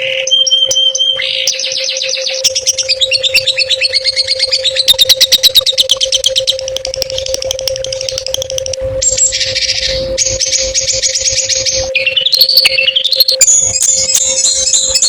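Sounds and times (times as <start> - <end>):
faint steady hum: 0.0 - 15.0
songbird trilling: 0.0 - 15.0.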